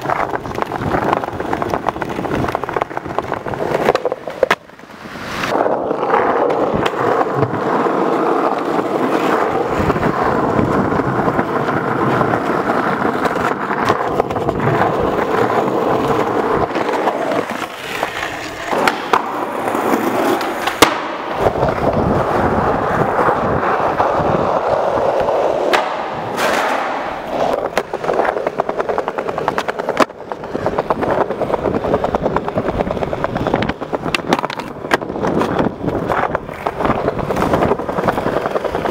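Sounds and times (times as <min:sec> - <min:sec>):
skateboard clacks: 0:00.0 - 0:38.9
skateboard wheels rolling on concrete: 0:00.0 - 0:38.9.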